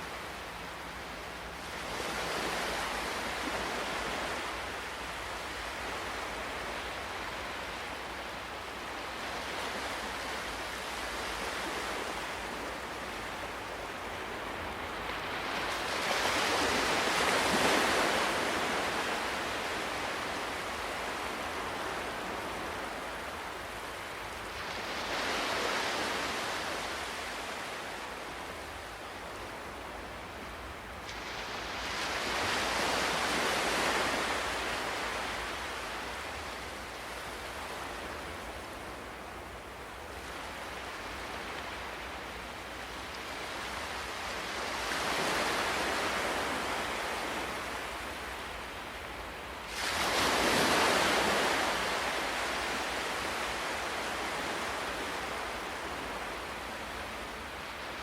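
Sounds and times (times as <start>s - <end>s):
ocean surf washing ashore: 0.0s - 58.0s.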